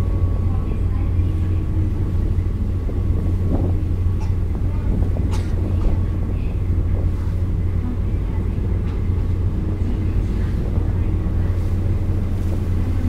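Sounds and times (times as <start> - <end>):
boat engine droning: 0.0 - 13.0
water churning: 0.0 - 13.0.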